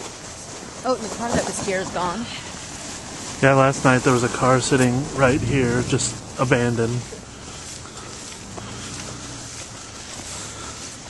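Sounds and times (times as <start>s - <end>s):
footsteps on snow: 0.0s - 11.0s
outdoor background noise: 0.0s - 11.0s.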